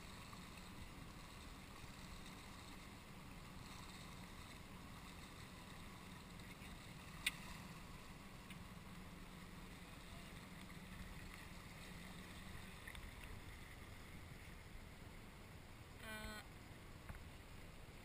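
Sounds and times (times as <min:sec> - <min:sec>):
small boat engine hum: 0:00.0 - 0:18.0.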